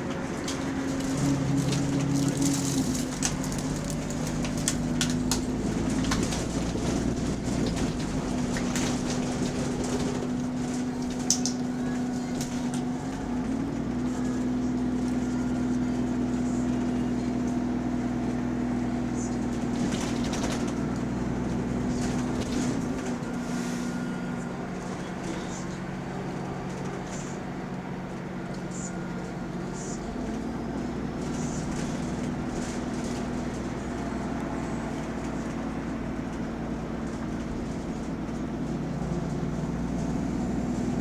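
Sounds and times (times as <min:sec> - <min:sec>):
bus diesel engine running: 0:00.0 - 0:41.0.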